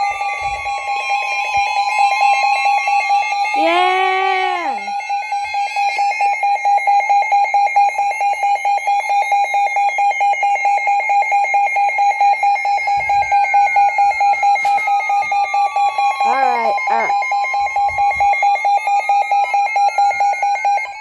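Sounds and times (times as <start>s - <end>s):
rapidly pulsing alarm tone: 0.0s - 21.0s
sweeping siren tone: 0.0s - 21.0s.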